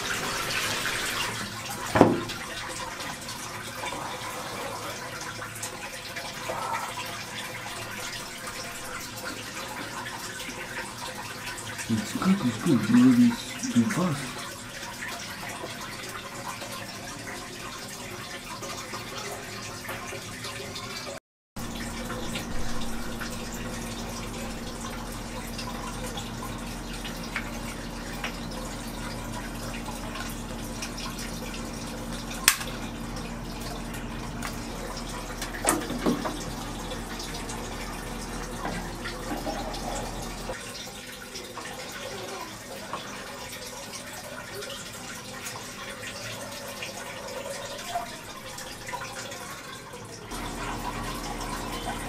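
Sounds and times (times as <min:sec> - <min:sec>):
aquarium pump water churning: 0:00.0 - 0:52.0.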